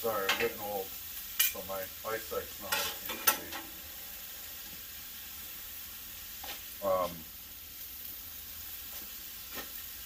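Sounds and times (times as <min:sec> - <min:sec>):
vegetables sizzling on a griddle: 0:00.0 - 0:10.0.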